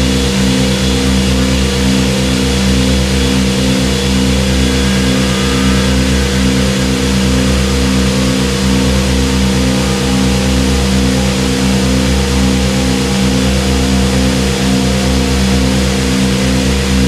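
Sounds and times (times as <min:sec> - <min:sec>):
synthesizer drone: 0:00.0 - 0:17.0.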